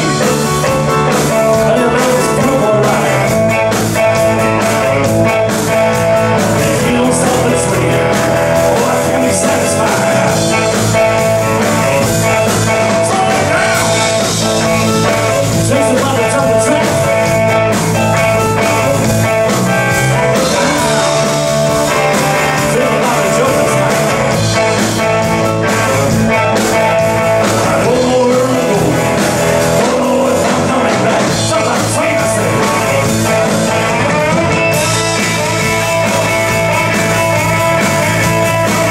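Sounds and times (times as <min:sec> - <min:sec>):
blues-rock band playing: 0:00.0 - 0:38.9
man singing: 0:00.0 - 0:38.9.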